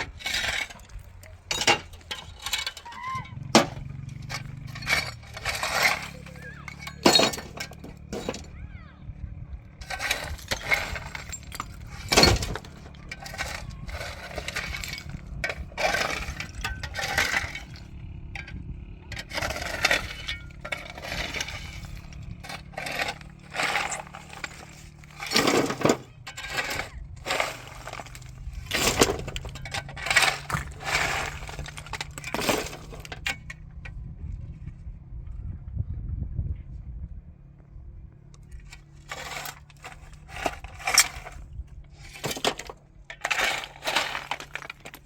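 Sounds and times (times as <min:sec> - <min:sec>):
hard objects clinking and clattering: 0:00.0 - 0:08.6, 0:09.8 - 0:33.9, 0:38.4 - 0:45.0.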